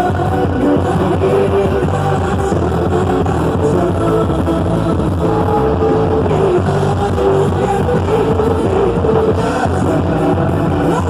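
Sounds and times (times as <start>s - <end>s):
loud amplified music with bass beat: 0.0s - 11.0s
person singing: 0.0s - 11.0s.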